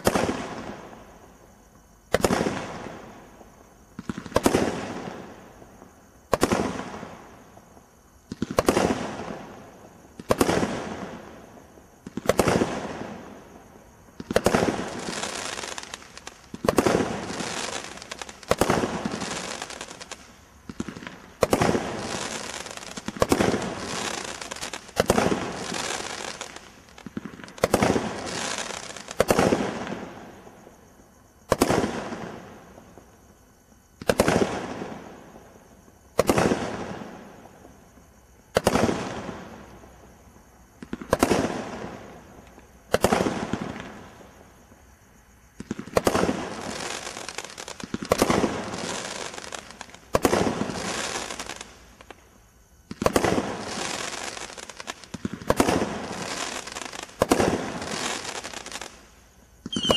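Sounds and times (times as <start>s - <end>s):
firework crackle: 0.0s - 33.2s, 33.9s - 40.2s, 40.8s - 44.6s, 45.5s - 59.9s.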